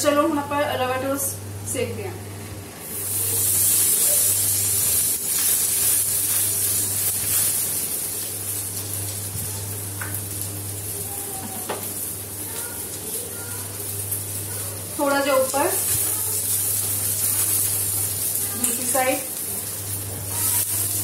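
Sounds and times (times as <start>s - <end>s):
steady low hum: 0.0s - 21.0s
bread sizzling in oil: 2.8s - 21.0s.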